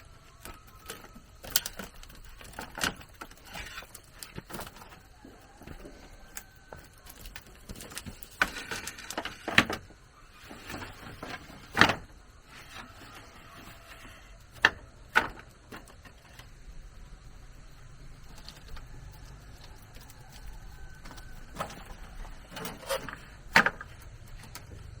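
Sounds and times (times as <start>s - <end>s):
bamboo scraping: 0.0s - 16.6s, 18.2s - 25.0s
bamboo rustling: 0.0s - 25.0s.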